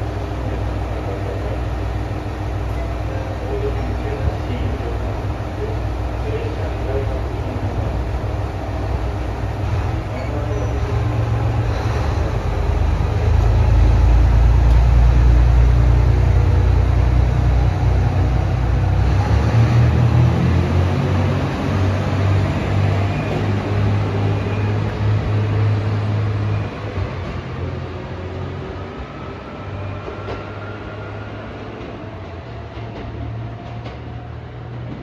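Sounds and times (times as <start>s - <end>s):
diesel railcar engine droning: 0.0s - 35.0s.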